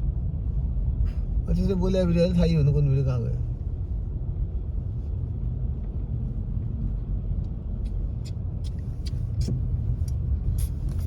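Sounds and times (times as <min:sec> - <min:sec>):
car engine rumble: 0:00.0 - 0:11.0
tyres on snowy road: 0:00.0 - 0:11.0.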